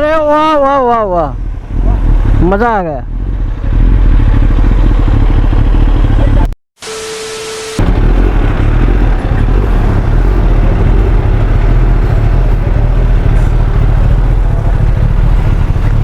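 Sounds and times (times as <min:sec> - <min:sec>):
motorcycle engine rumbling: 0:00.0 - 0:06.5, 0:07.8 - 0:16.0.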